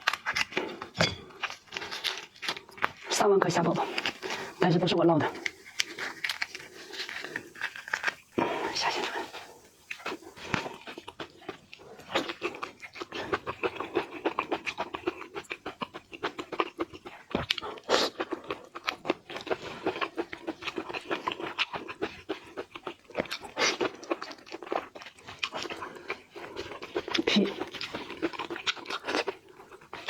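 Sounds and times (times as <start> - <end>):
shrimp being peeled and eaten: 0.0 - 30.0.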